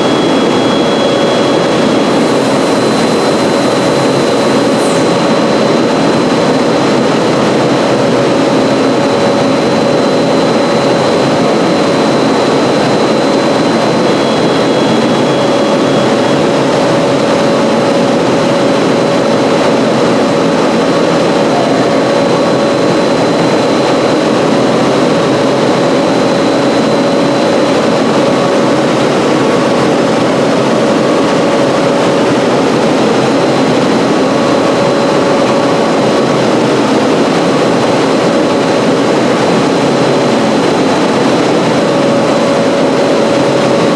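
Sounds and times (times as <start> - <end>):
factory machinery drone: 0.0 - 43.9
faint high whine: 0.0 - 43.9
mid-pitched machine whine: 0.0 - 43.9.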